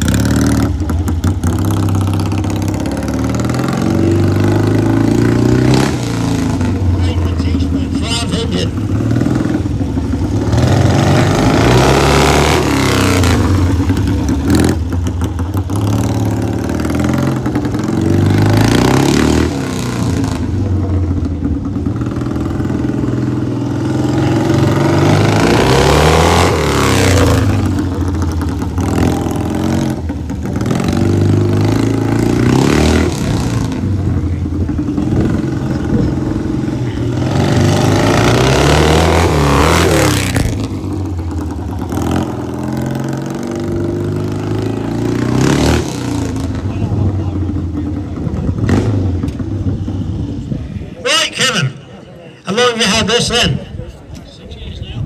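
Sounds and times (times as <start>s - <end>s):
motorcycle engine revving: 0.0s - 52.1s.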